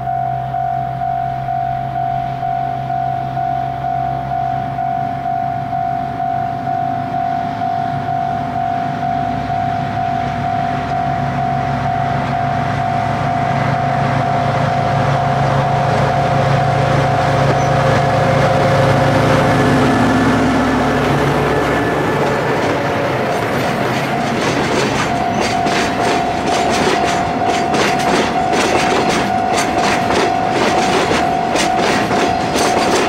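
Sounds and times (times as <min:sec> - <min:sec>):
diesel locomotives passing: 0:00.0 - 0:33.0
pulsing ringing tone: 0:00.0 - 0:33.0.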